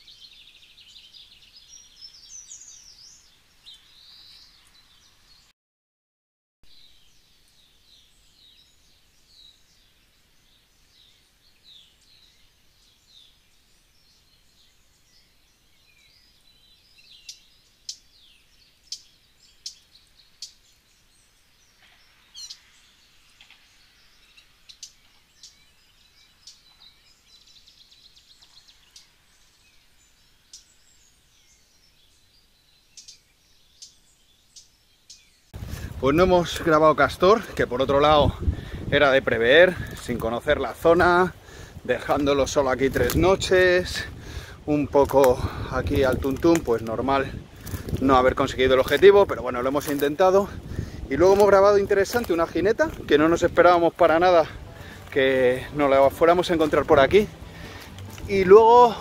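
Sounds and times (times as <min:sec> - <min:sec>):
small birds chirping: 0:00.0 - 0:05.5, 0:06.6 - 0:59.0.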